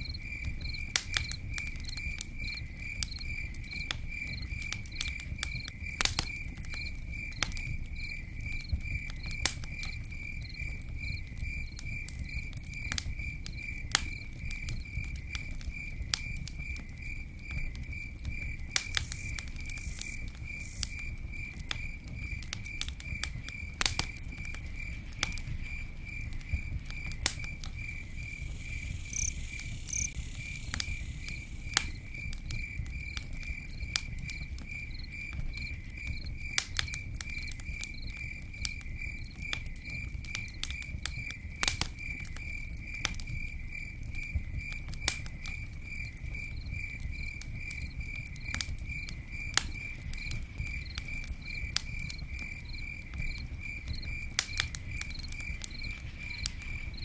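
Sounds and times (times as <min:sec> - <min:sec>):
campfire crackling: 0:00.0 - 0:57.0
cricket chirping: 0:00.0 - 0:57.0.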